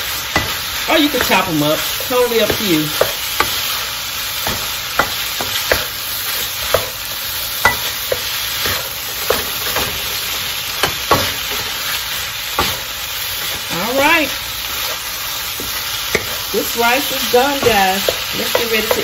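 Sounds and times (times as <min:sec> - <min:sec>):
fried rice sizzling in wok: 0:00.0 - 0:19.0
spatula scraping and knocking pan: 0:00.2 - 0:19.0.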